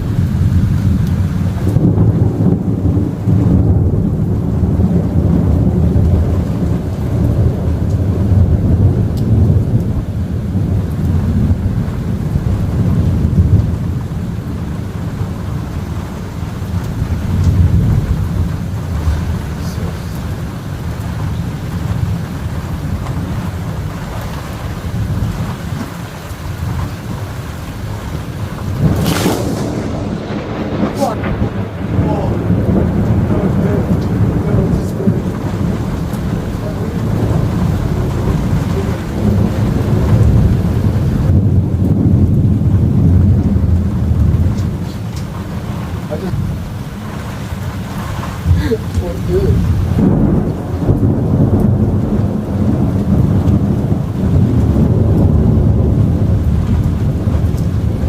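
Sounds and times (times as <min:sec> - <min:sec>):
rain falling: 0:00.0 - 0:58.0
thunder rumbling: 0:00.0 - 0:58.0.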